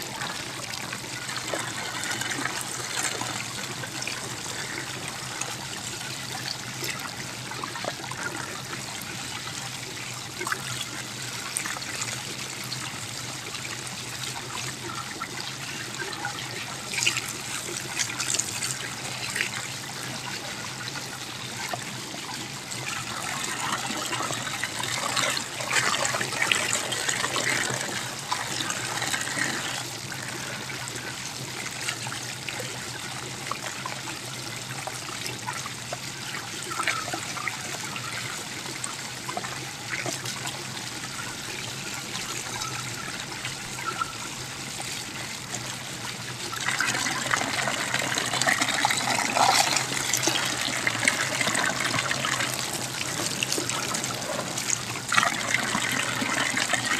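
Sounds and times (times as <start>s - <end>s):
water pouring into a basin: 0.0s - 56.9s.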